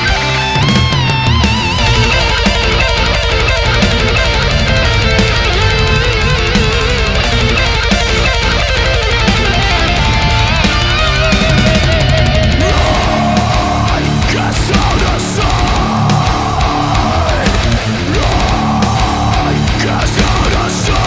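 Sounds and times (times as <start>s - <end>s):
distorted electric guitar: 0.0s - 21.0s
steady drum beat: 0.0s - 21.0s.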